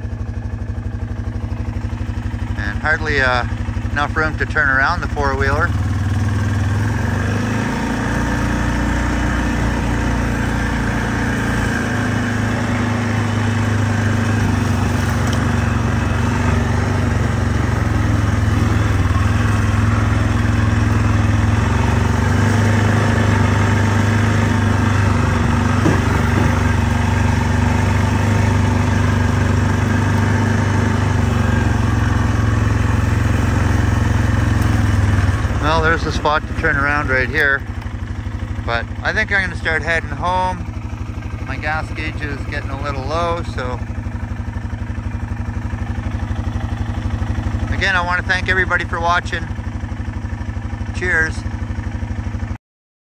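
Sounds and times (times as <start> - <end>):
atv engine running: 0.0 - 52.6.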